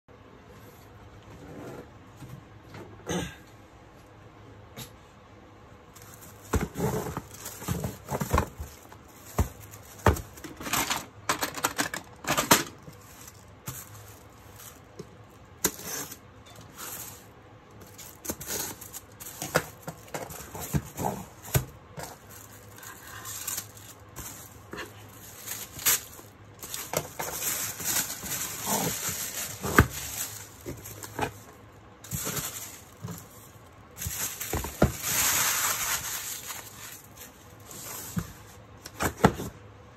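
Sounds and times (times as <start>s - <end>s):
plastic crinkling: 5.9s - 38.7s.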